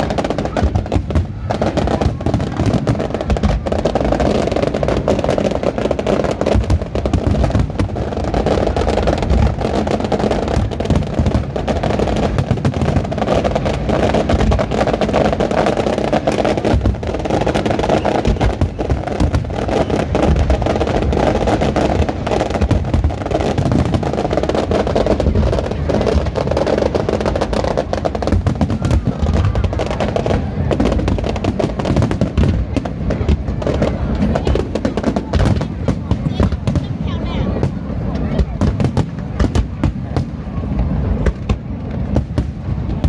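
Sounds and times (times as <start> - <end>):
fireworks banging and crackling: 0.0 - 43.0.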